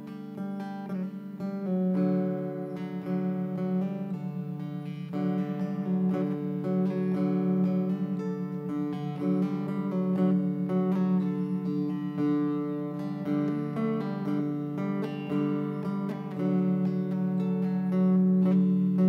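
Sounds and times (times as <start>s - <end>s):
plucked lute melody: 0.0s - 19.0s.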